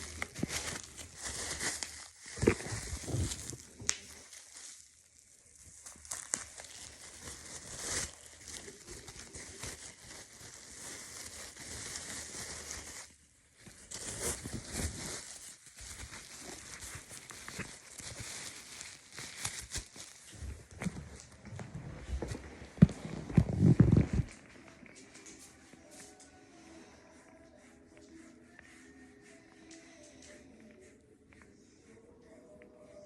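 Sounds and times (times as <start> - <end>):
crinkling and rustling: 0.0 - 32.0.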